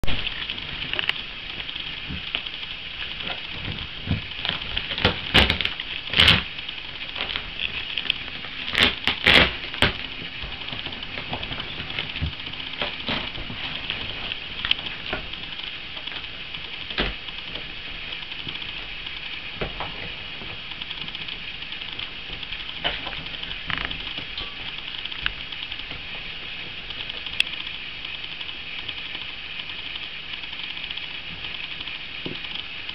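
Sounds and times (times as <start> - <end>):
steady hiss: 0.0 - 32.9
dogs scuffling: 0.4 - 27.3.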